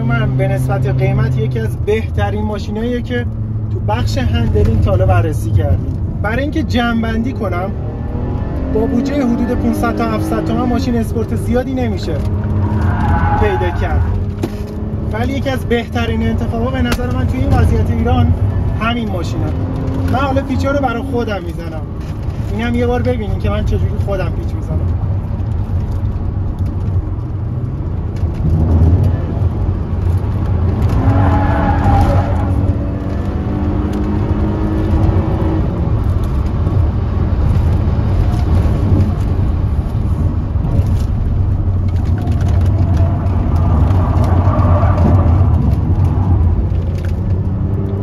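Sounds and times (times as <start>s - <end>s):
car engine at high revs: 0.0s - 48.0s.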